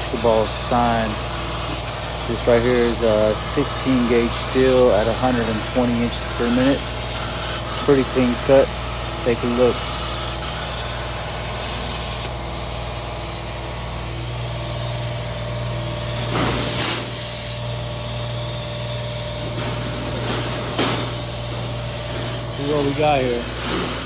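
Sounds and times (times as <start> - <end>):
low machine hum: 0.0 - 24.0
plasma cutter arc hiss: 0.0 - 24.0.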